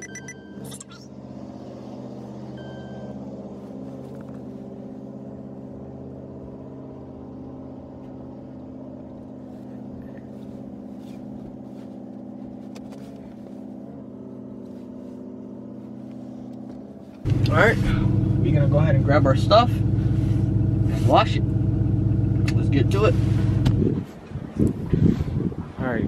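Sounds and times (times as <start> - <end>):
engine idling: 2.1 - 25.0.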